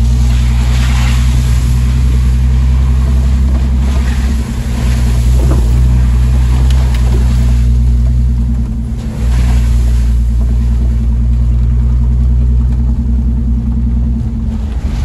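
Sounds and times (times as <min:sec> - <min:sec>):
vehicle engine droning in cab: 0:00.0 - 0:15.0.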